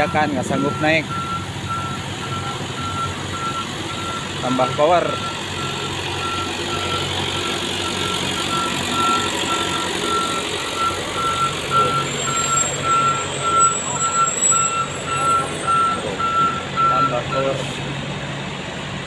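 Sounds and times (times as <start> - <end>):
reversing alarm beeping: 0.0 - 17.6
truck diesel engine under load: 0.0 - 19.0.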